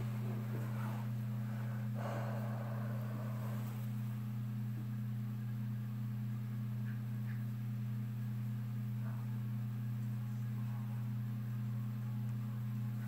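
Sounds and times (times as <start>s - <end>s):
steady low two-tone hum: 0.0s - 13.0s.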